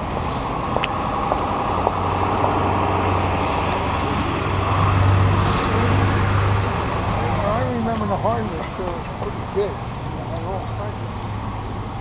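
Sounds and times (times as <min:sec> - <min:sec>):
vehicle droning: 0:00.0 - 0:12.0.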